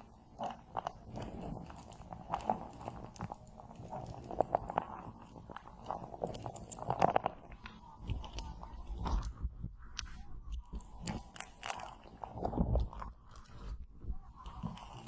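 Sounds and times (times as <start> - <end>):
gel patch crinkling: 0.0 - 15.0.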